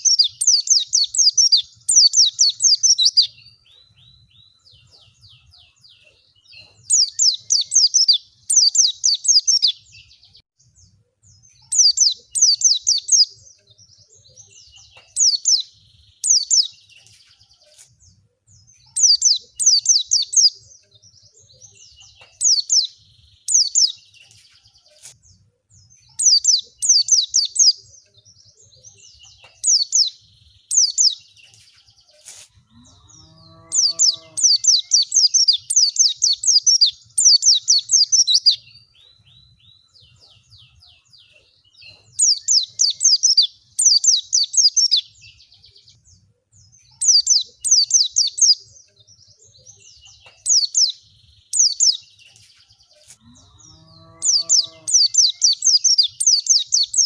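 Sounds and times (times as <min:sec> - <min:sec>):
bird chirping song: 0:00.0 - 0:57.0.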